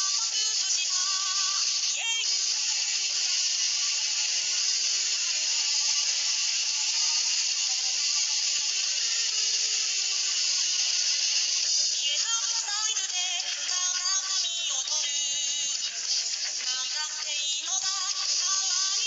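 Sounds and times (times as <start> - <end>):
gritty hiss-like noise texture: 0.0 - 19.0.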